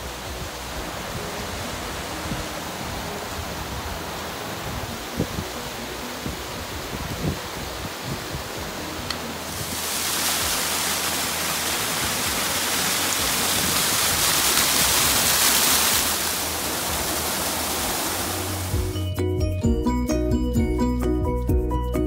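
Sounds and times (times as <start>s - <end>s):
mountain stream rushing: 0.0s - 19.0s
background music: 0.0s - 22.0s.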